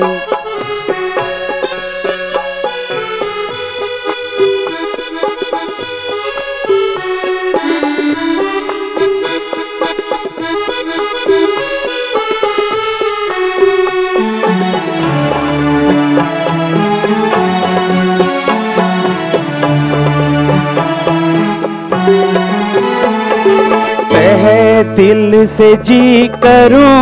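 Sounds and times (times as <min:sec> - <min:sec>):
drum strokes: 0:00.0 - 0:27.0
harmonium melody: 0:00.0 - 0:27.0.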